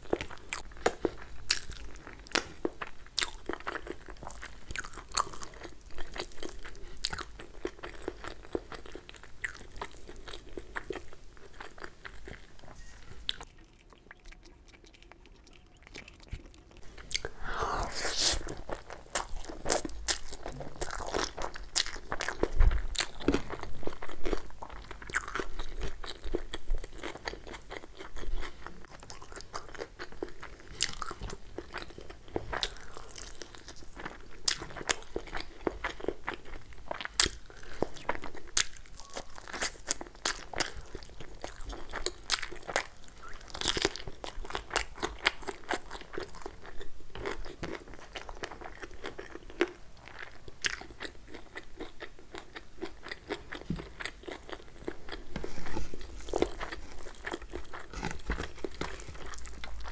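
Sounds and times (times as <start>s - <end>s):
crunchy wet chewing: 0.0s - 59.9s.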